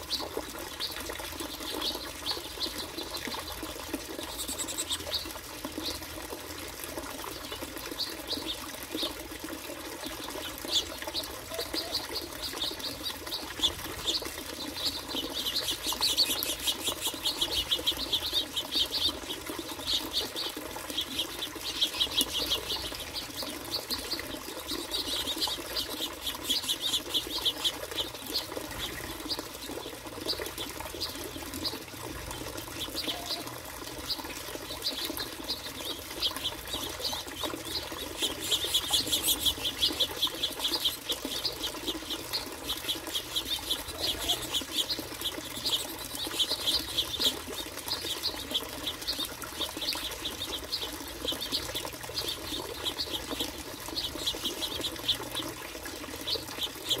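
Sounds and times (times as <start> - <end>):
finches chirping: 10.6 - 57.0.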